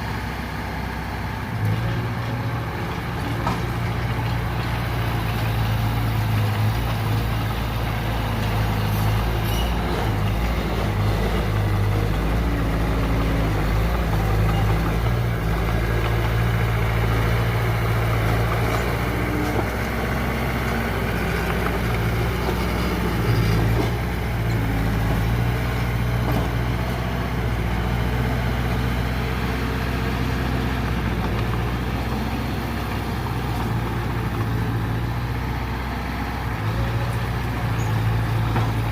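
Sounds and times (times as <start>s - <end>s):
diesel engine of heavy machinery: 0.0s - 38.9s.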